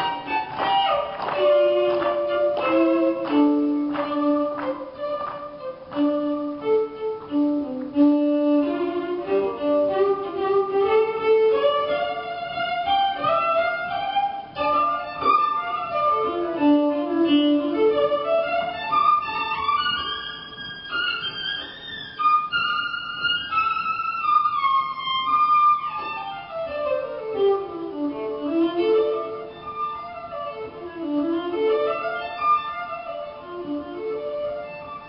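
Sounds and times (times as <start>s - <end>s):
bowed violin melody: 0.0s - 35.0s.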